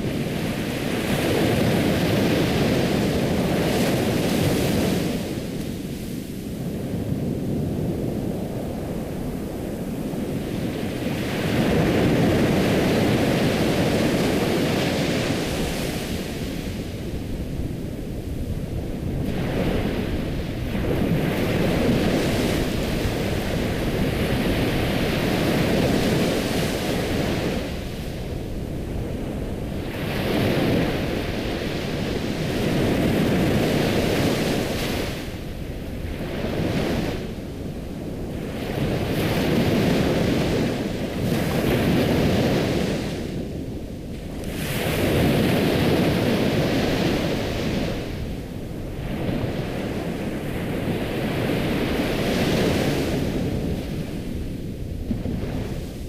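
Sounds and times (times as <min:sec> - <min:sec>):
ocean waves washing: 0:00.0 - 0:56.0.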